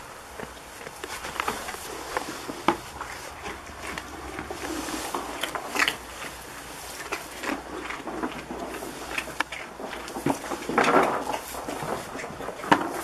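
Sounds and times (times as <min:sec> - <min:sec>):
goats crunching carrots: 0:00.0 - 0:13.0.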